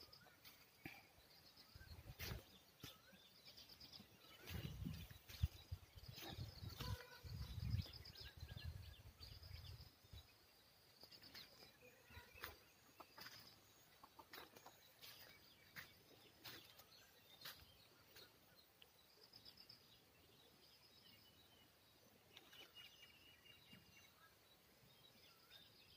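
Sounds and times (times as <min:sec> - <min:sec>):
faint birds chirping: 0:00.0 - 0:25.9.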